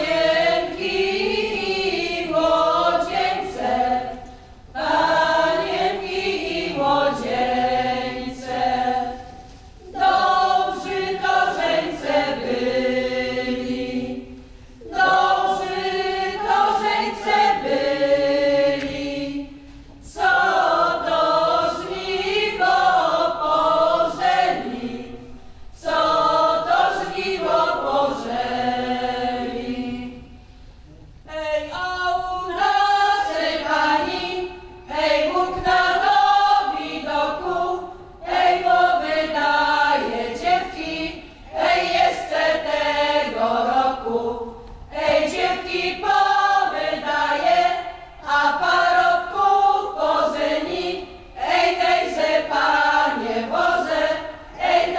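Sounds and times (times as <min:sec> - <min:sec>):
choir singing without instruments: 0:00.0 - 0:54.9.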